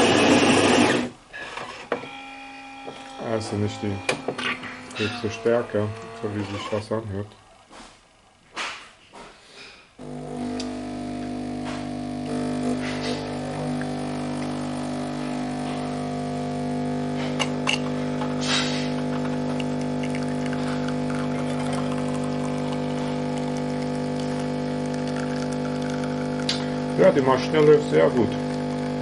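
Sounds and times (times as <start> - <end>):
coffee machine pump humming: 0.0 - 7.0, 10.0 - 29.0.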